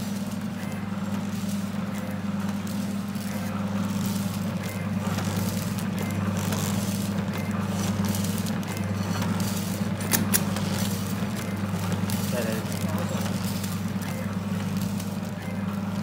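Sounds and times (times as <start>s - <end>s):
packing machine humming: 0.0s - 16.0s.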